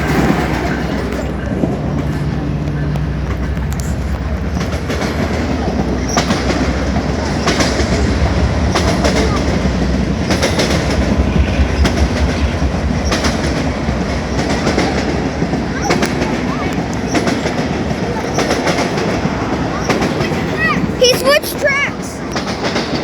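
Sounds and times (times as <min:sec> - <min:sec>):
freight train rumbling: 0:00.0 - 0:23.0
wheels clacking over rail joints: 0:00.0 - 0:23.0.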